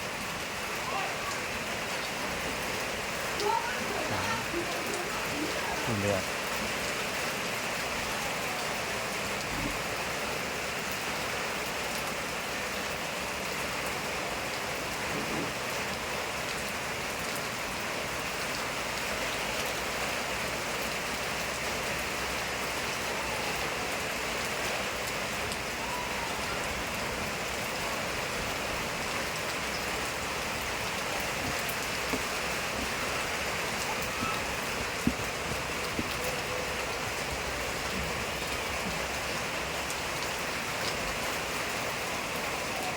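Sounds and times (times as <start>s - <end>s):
rain spattering on surfaces: 0.0s - 42.9s.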